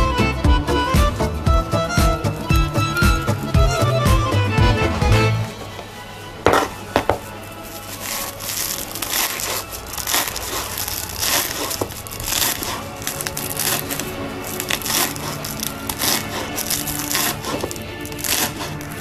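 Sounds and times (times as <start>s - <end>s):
music: 0.0s - 19.0s.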